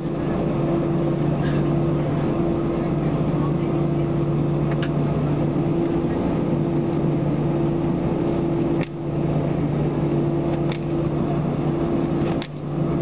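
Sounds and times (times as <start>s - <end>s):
jet engine cabin drone: 0.0s - 13.0s.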